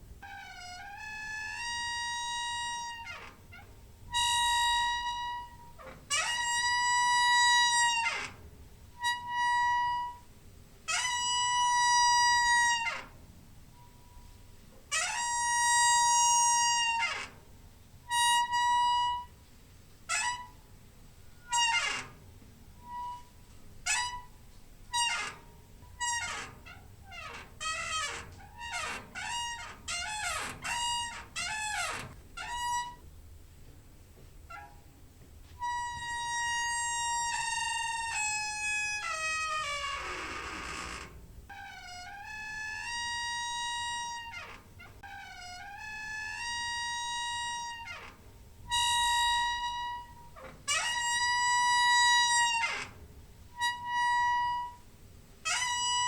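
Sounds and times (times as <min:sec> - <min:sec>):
door hinge squeaking: 0:00.0 - 0:10.3, 0:10.9 - 0:13.2, 0:13.8 - 0:19.4, 0:20.0 - 0:33.2, 0:34.5 - 0:34.9, 0:35.6 - 0:56.0.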